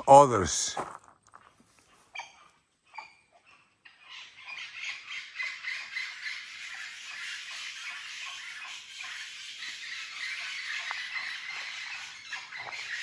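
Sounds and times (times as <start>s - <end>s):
parrots squawking: 2.1s - 13.0s.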